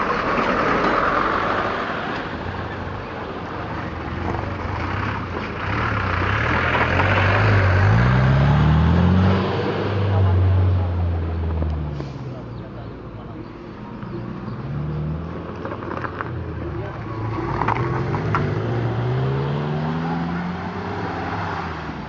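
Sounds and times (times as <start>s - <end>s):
car engine driving slowly: 0.0s - 22.0s
dump truck engine: 0.0s - 22.0s.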